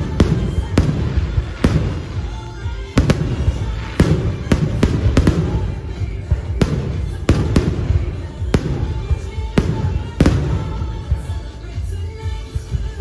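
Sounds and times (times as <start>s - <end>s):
fireworks bangs: 0.0s - 11.6s
fireworks crackling and rumble: 0.0s - 13.0s
music playing: 0.0s - 13.0s.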